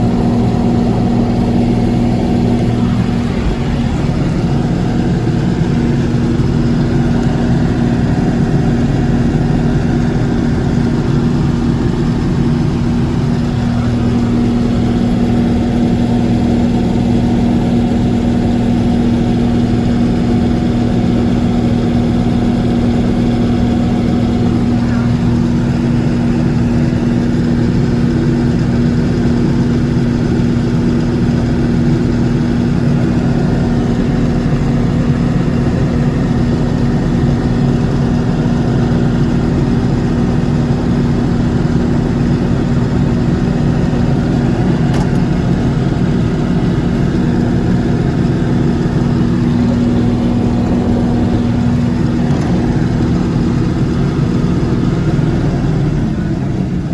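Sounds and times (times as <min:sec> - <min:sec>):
combine harvester engine drone: 0:00.0 - 0:56.9.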